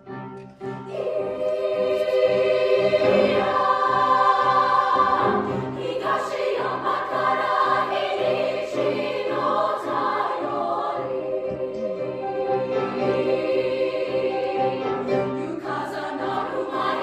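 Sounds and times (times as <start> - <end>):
choir singing sustained notes: 0.2 - 17.0.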